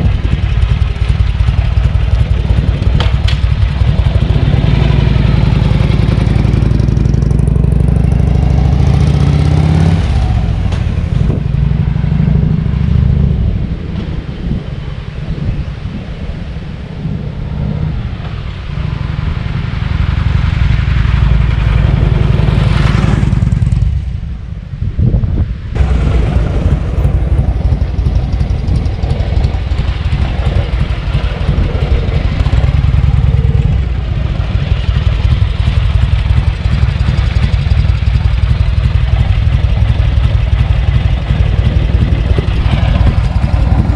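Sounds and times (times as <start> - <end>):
motorcycle engine running: 0.0 - 14.7, 16.8 - 24.6, 25.8 - 43.9.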